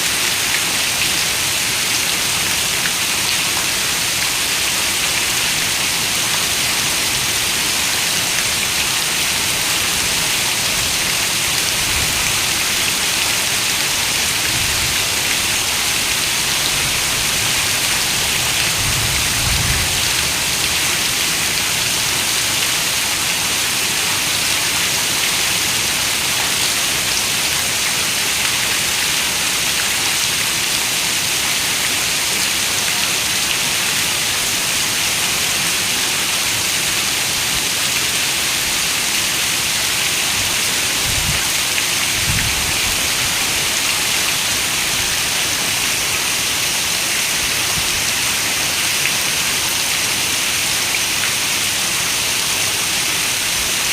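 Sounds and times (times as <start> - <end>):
heavy rain on a window: 2.4 - 53.9.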